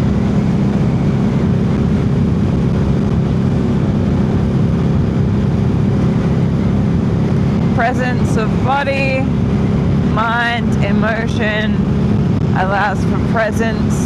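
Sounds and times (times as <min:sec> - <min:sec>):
motorcycle engine droning: 0:00.0 - 0:14.0.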